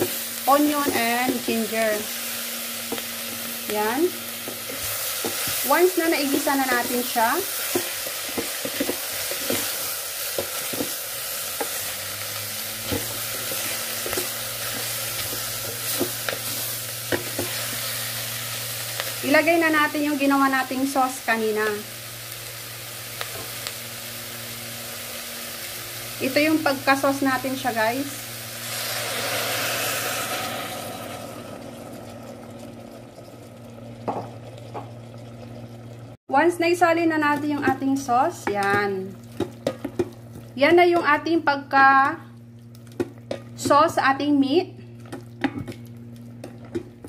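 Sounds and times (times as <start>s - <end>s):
food sizzling in a pot: 0.0s - 47.0s.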